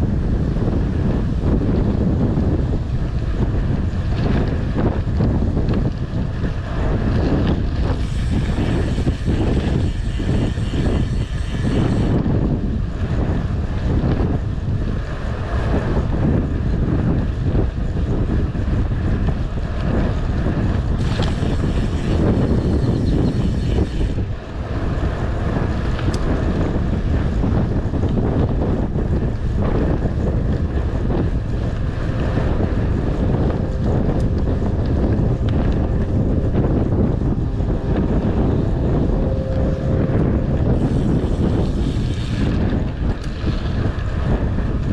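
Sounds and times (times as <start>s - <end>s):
bike tyres road noise: 0.0s - 44.9s
wind buffeting microphone: 0.0s - 44.9s.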